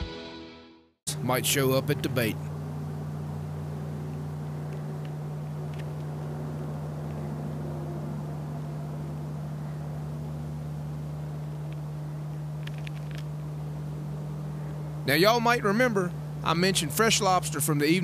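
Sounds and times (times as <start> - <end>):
steady low hum: 1.1 - 18.0.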